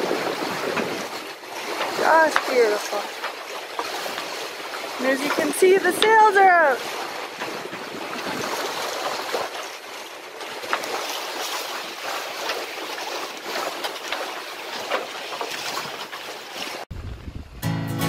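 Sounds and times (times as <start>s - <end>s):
small water splashes: 0.0s - 17.2s
rushing water: 0.0s - 17.3s
wind: 0.0s - 18.0s.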